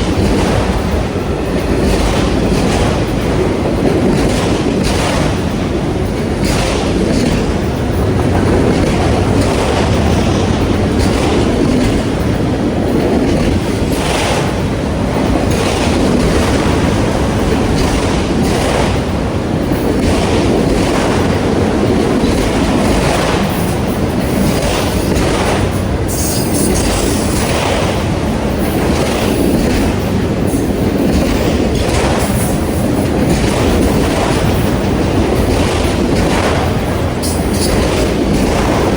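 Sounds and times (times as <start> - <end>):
freight train rumbling: 0.0 - 38.9
wheels clacking over rail joints: 0.0 - 38.9.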